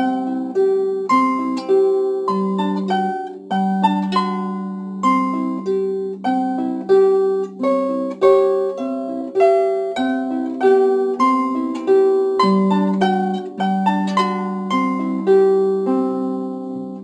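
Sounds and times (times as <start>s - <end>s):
harp notes plucked: 0.0s - 17.0s.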